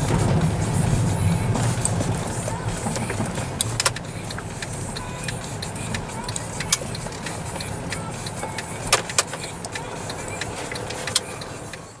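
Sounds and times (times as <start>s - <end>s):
engine and road rumble: 0.0s - 12.0s
sharp clicks and ticks: 0.0s - 12.0s.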